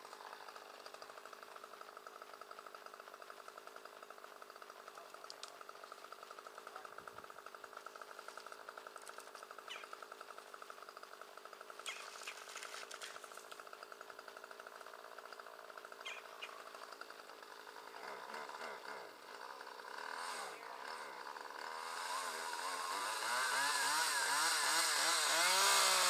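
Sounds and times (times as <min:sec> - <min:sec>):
chainsaw engine idling and revving: 0:00.0 - 0:26.0.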